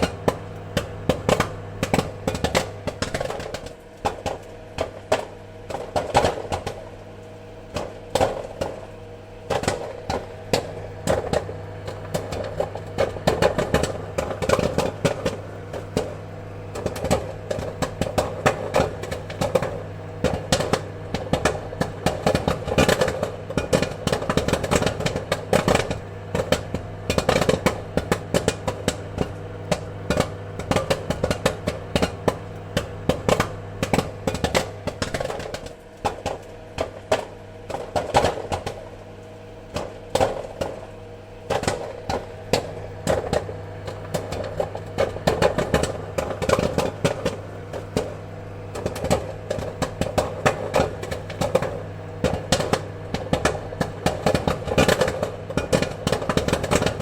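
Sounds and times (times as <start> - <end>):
popcorn popping: 0.0 - 57.0
steady low hum: 0.0 - 57.0.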